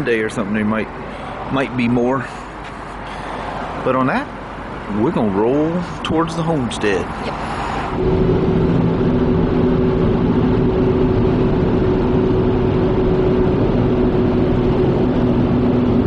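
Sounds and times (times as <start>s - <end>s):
drivetrain drone: 0.0s - 16.0s
tyres rumbling on road: 0.0s - 16.0s.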